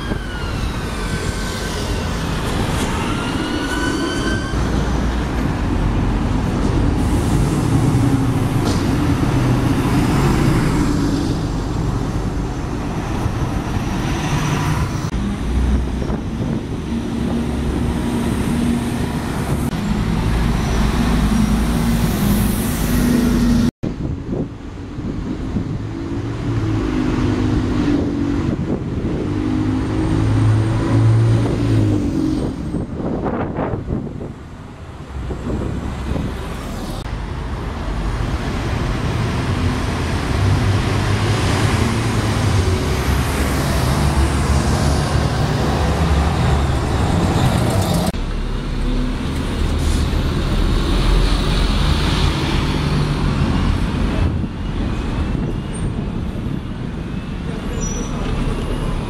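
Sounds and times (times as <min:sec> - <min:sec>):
vehicles driving past: 0:04.5 - 0:59.0.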